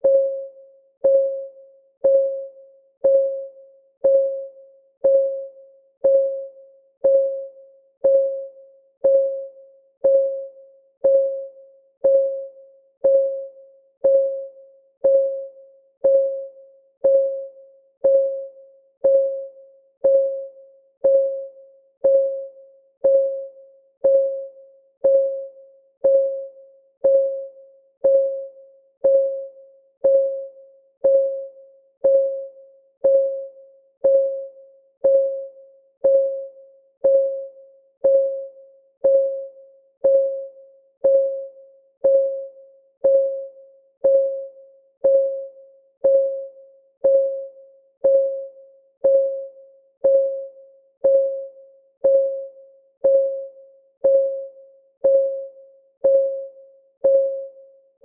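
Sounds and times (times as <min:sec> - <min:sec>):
timer clock ticking: 0:01.0 - 0:57.6.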